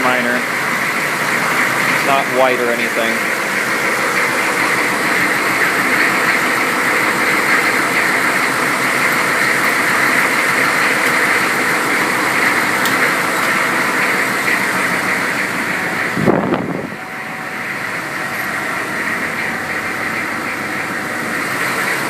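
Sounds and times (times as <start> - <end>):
diesel engine idling with clatter: 0.0 - 22.0.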